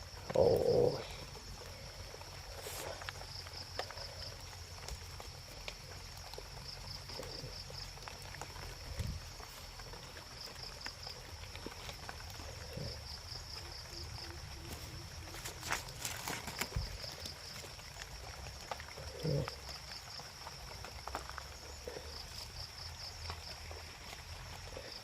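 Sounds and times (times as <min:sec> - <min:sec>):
faint ticks and rustles: 0:00.0 - 0:25.0
insects trilling: 0:00.0 - 0:25.0
rapid insect chirps: 0:00.0 - 0:25.0.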